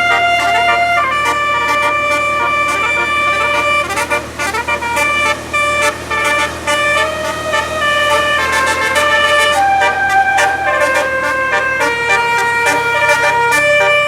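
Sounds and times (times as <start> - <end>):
musical air horn melody: 0.0 - 14.0.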